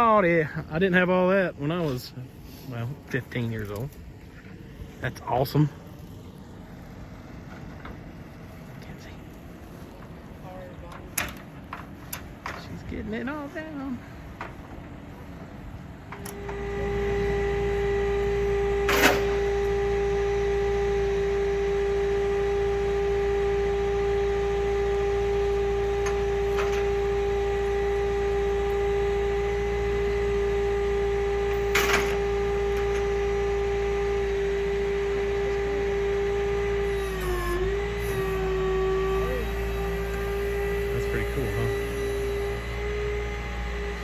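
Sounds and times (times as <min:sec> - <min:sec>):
hydraulic lift whine: 0:00.0 - 0:44.0.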